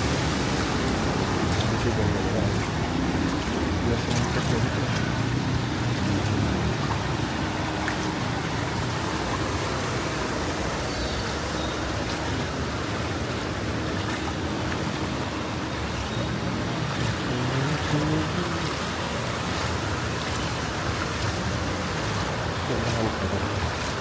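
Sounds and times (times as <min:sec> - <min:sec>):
vehicle engine: 0:00.0 - 0:10.9, 0:12.1 - 0:24.0
traffic noise: 0:00.0 - 0:24.0
wash of water: 0:00.0 - 0:24.0.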